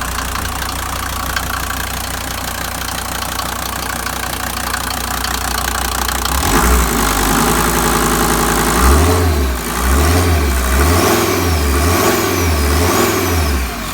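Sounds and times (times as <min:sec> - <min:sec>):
diesel engine revving: 0:00.0 - 0:13.9.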